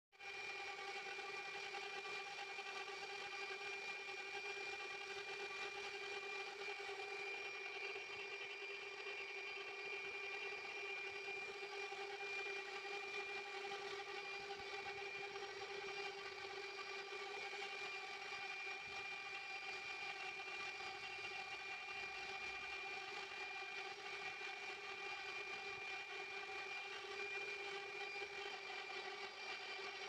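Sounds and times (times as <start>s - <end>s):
motor whirring steadily: 0.2s - 30.0s.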